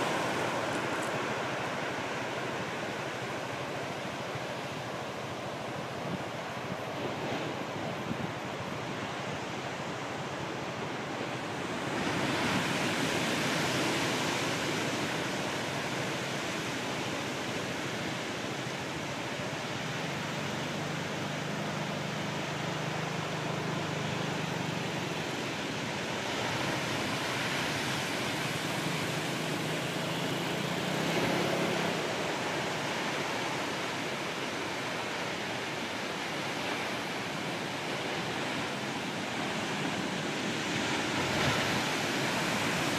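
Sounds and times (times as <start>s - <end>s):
ocean surf breaking on shore: 0.0s - 42.9s.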